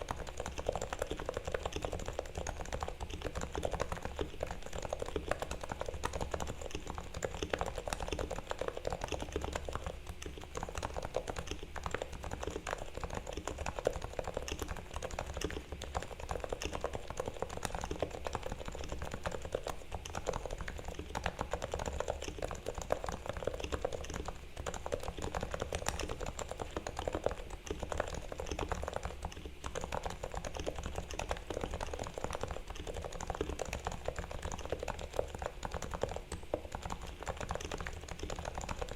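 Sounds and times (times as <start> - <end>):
soft keyboard typing: 0.0 - 38.9.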